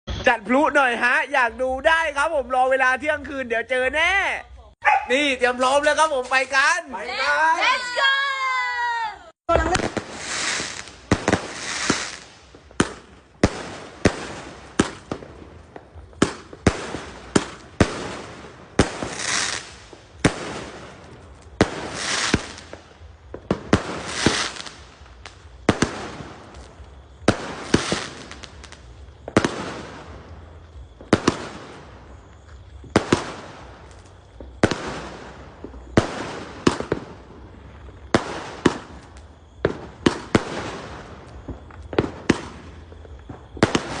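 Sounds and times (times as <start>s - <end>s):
fireworks bangs: 0.1s - 44.0s
fireworks crackling hiss: 0.1s - 44.0s.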